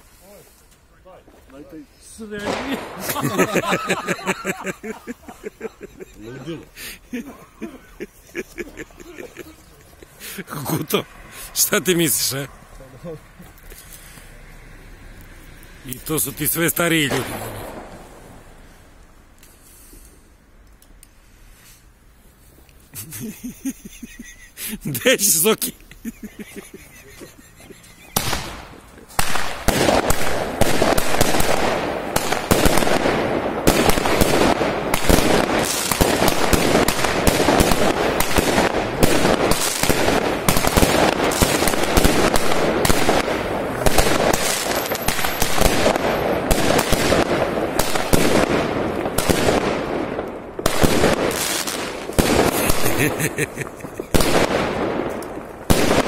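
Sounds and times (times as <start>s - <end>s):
firework battery shots and crackling: 0.0s - 12.5s, 15.9s - 18.7s, 23.0s - 56.0s.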